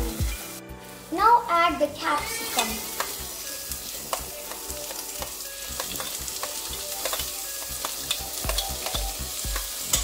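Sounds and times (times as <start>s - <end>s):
onion frying sizzle: 0.0s - 10.0s.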